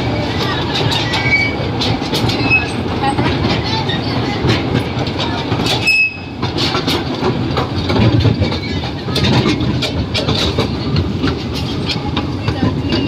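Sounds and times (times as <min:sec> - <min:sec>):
train wheels clattering on track: 0:00.0 - 0:13.0.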